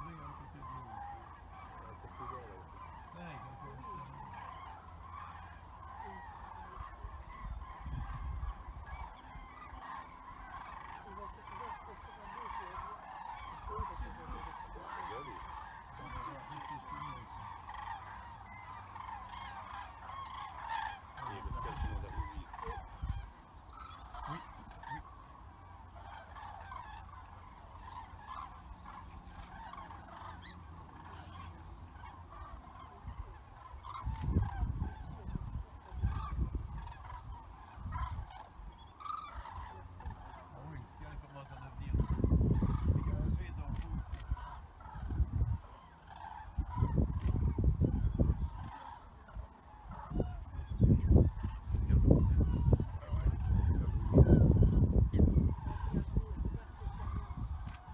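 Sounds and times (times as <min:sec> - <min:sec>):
cranes trumpeting calls: 0:00.0 - 0:57.9.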